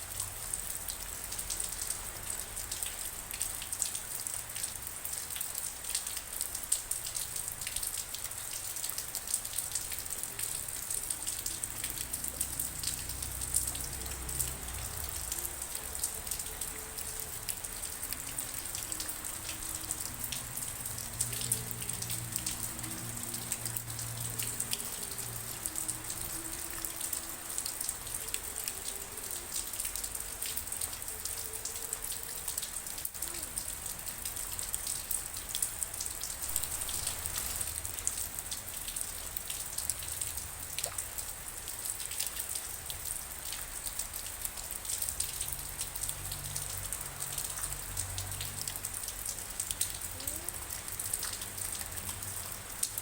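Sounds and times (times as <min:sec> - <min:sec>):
rain drops tapping on a surface: 0:00.0 - 0:53.0.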